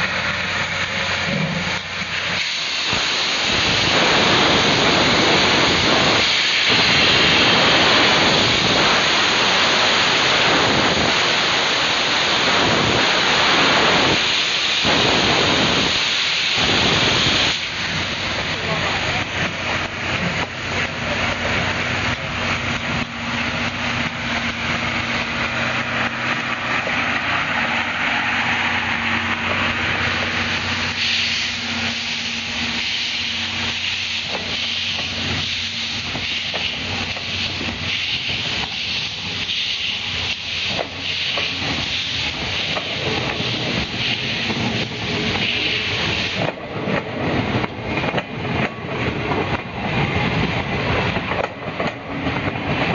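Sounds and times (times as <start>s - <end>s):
steam hissing: 0.0s - 52.9s
steam locomotive exhaust beats: 0.0s - 52.9s.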